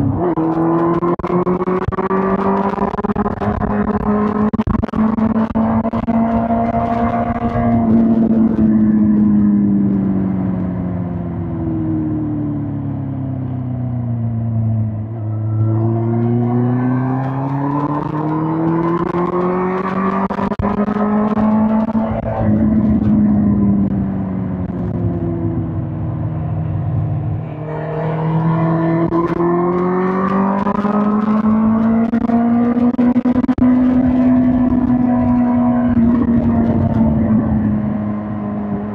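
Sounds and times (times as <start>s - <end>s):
motorcycle engine on road: 0.0s - 38.9s.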